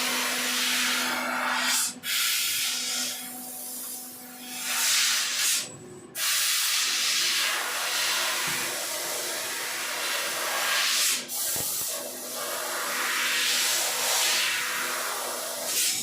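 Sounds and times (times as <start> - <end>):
laser cutter hissing: 0.4 - 16.0.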